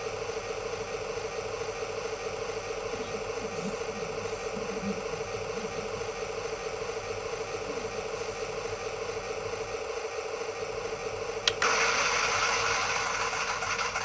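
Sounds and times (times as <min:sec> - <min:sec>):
small fan whirring: 0:00.0 - 0:14.0.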